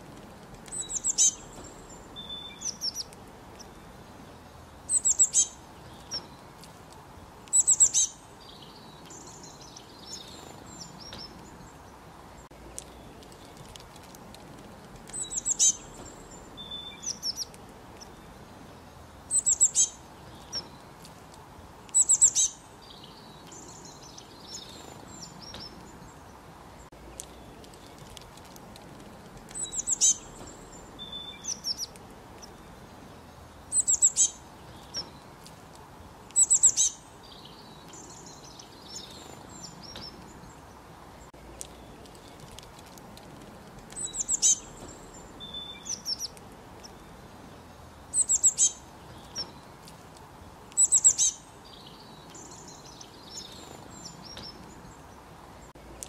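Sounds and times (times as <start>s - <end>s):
songbirds chirping: 0.0s - 56.0s
soft bird twittering: 0.6s - 13.8s, 15.1s - 28.2s, 29.4s - 35.4s, 36.3s - 42.6s, 43.8s - 55.8s.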